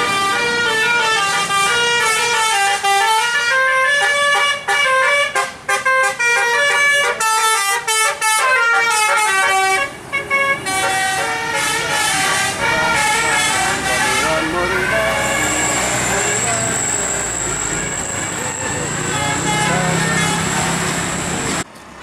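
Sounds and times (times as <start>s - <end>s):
tuned air horns playing melody: 0.0s - 20.9s.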